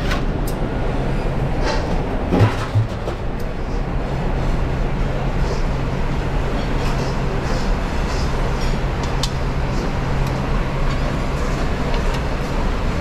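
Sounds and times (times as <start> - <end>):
kitchen grill roar: 0.0 - 13.0.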